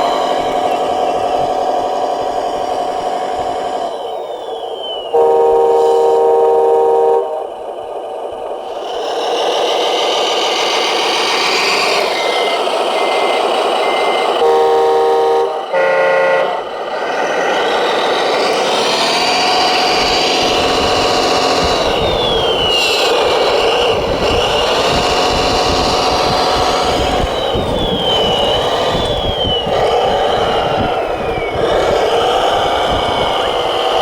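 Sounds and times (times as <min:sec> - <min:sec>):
toy motor and gear whine: 0:00.0 - 0:34.0.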